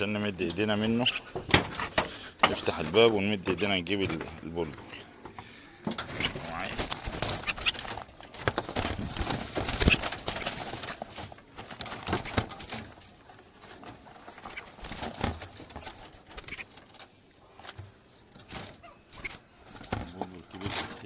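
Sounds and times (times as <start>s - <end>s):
faint scattered clicks: 0.0s - 21.0s
trap door clattering: 0.0s - 21.0s.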